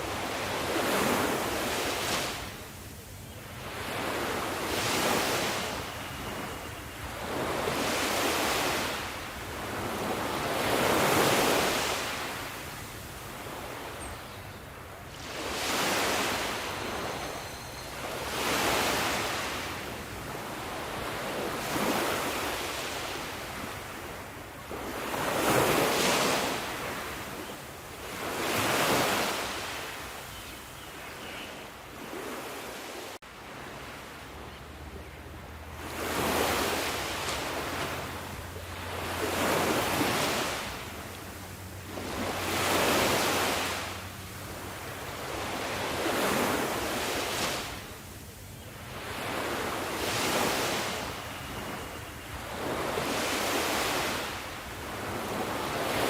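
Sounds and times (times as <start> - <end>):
sea waves breaking: 0.0 - 2.8, 3.6 - 14.1, 15.1 - 27.4, 28.0 - 30.1, 35.5 - 48.2, 48.9 - 56.0.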